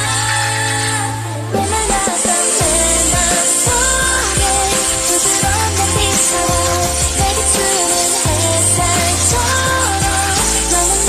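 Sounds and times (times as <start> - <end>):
person singing karaoke: 0.0 - 11.0
electronic beat and bass line: 1.1 - 11.0.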